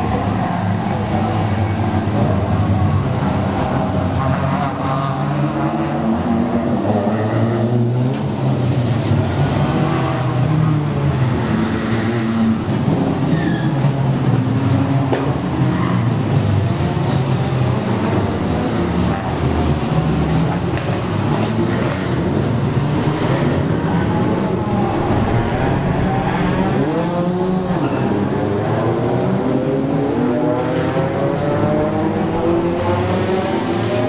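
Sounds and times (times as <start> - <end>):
race car engines revving: 0.0 - 34.0.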